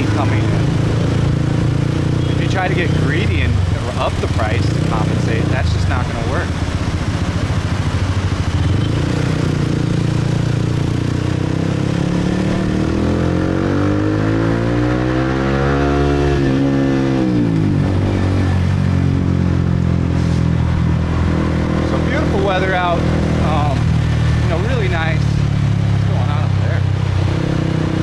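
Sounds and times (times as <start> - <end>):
motorbike engines running: 0.0 - 28.0
road noise: 0.0 - 28.0.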